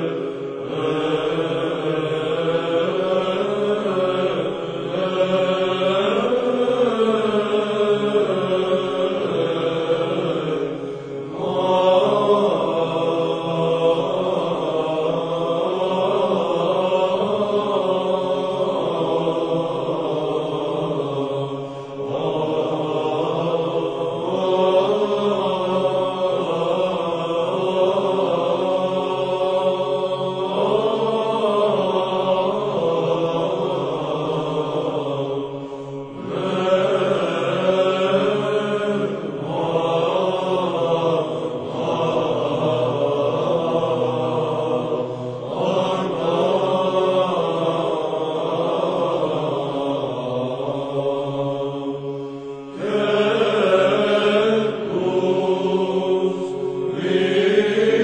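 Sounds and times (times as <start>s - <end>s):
church chant singing: 0.0s - 58.0s.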